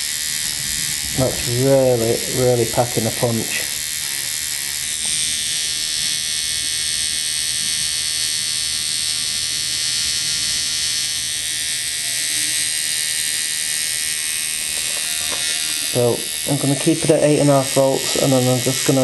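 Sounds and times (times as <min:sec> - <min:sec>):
tattoo machine buzzing: 0:00.0 - 0:19.0.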